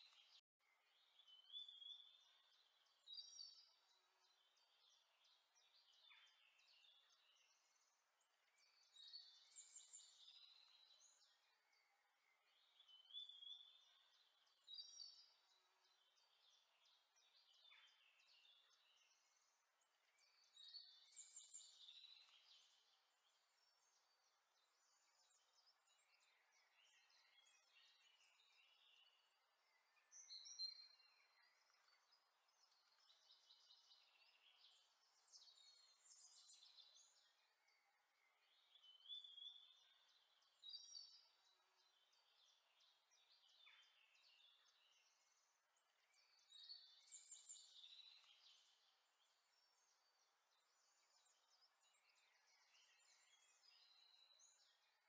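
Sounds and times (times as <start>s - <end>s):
faint birdsong: 0.0s - 55.0s.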